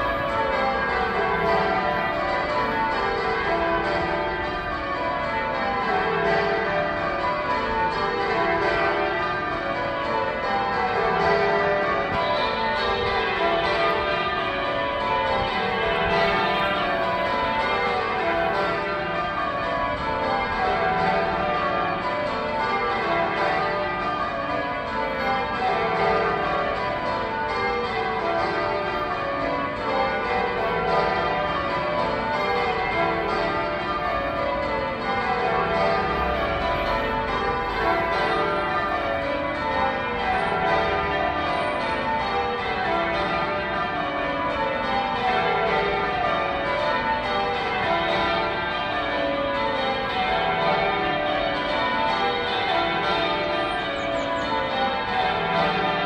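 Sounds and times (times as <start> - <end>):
church bells change-ringing: 0.0 - 56.0.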